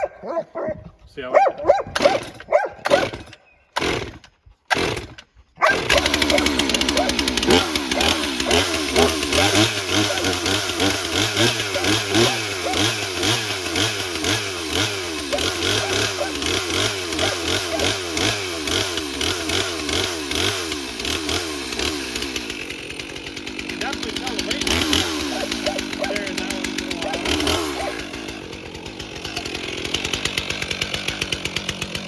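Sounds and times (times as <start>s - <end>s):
chainsaw engine running: 0.0s - 32.0s.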